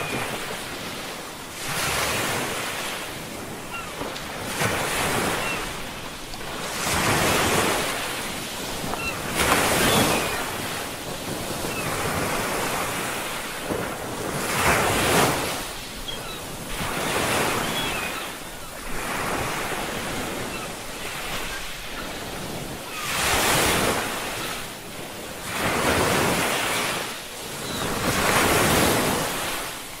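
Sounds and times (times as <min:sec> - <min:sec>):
waves breaking: 0:00.0 - 0:30.0.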